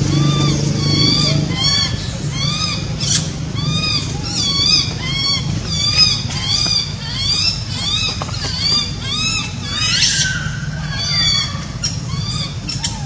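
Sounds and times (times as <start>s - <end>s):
baby monkey crying: 0.0s - 13.0s
low steady hum: 0.0s - 13.0s.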